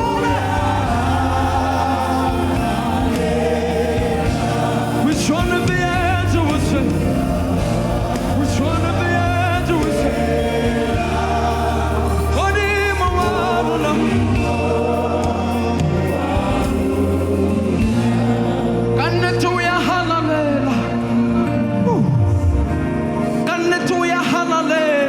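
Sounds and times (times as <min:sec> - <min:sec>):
steady bass line: 0:00.0 - 0:23.2
gospel singing with vibrato: 0:00.0 - 0:25.0.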